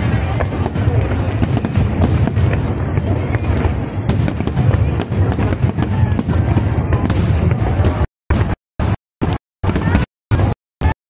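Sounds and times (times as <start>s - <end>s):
fireworks cracking: 0.0s - 11.0s
low rumble of explosions: 0.0s - 11.0s.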